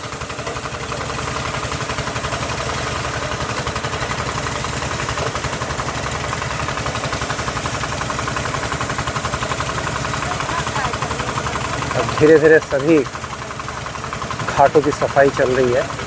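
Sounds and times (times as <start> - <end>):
water pump engine chugging: 0.0 - 16.0.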